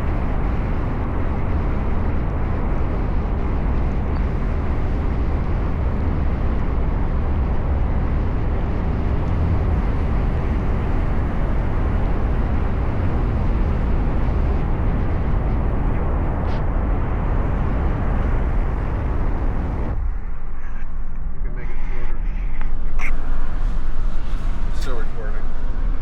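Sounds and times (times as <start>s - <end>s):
car road and wind rumble: 0.0s - 26.0s.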